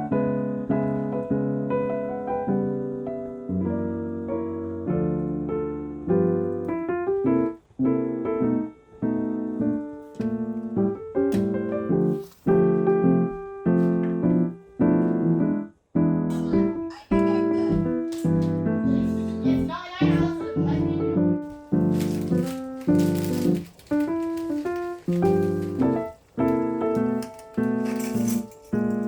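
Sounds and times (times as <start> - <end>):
gentle piano chords: 0.0 - 29.0.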